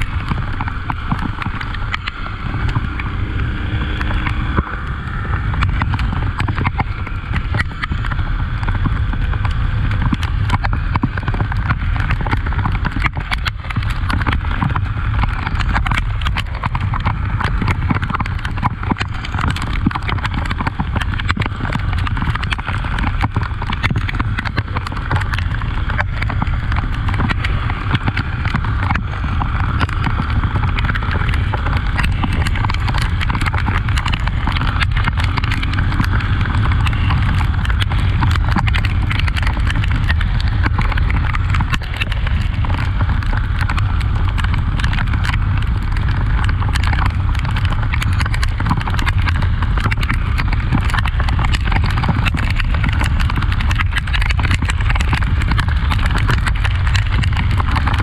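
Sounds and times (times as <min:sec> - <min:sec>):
motorcycle engine drone: 0:00.0 - 0:58.0
sharp clicks and knocks: 0:00.0 - 0:58.0.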